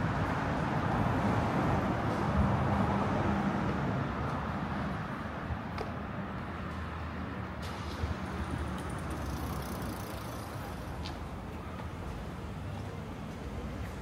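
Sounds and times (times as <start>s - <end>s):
vehicle engine and tyres running: 0.0s - 14.0s.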